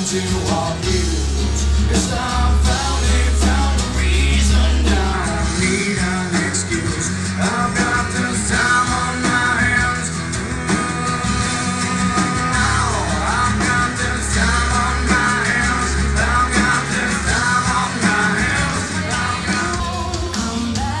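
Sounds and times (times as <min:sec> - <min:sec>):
rock song with singing and guitar: 0:00.0 - 0:21.0.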